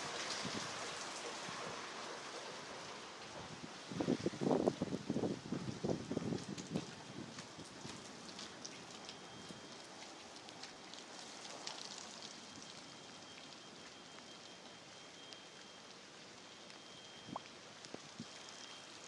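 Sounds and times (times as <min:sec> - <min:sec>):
heavy rain: 0:00.0 - 0:19.0
raindrops pattering on surfaces: 0:00.0 - 0:19.0.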